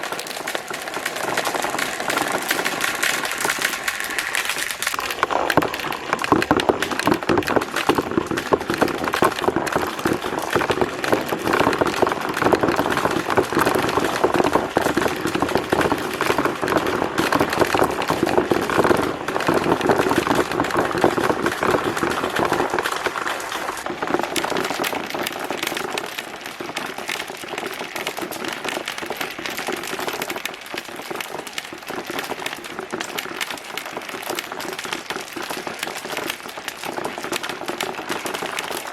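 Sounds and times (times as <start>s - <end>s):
marbles clattering down a track: 0.0s - 38.9s.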